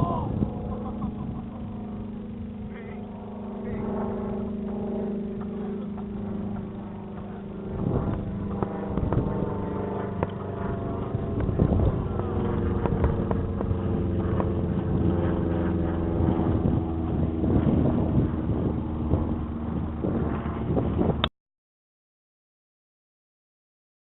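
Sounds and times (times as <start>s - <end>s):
engine running steadily: 0.0s - 21.3s.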